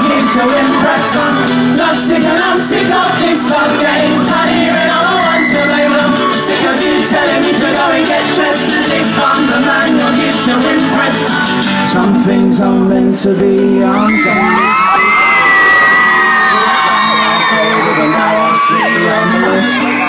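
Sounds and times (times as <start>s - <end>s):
guitar: 0.0s - 20.0s
lead vocal singing: 0.0s - 20.0s
live pop band playing: 0.0s - 20.0s.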